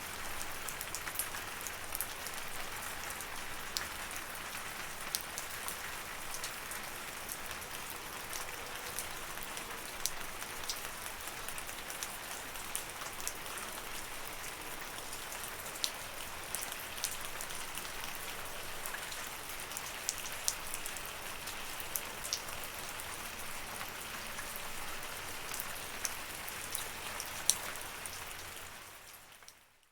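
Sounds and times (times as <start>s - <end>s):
raindrops ticking on a surface: 0.1s - 29.9s.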